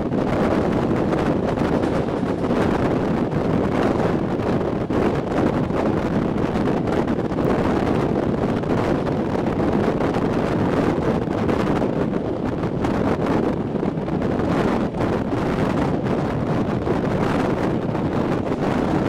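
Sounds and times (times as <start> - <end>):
train running on rails: 0.0 - 19.0
wind rushing over microphone: 0.0 - 19.0.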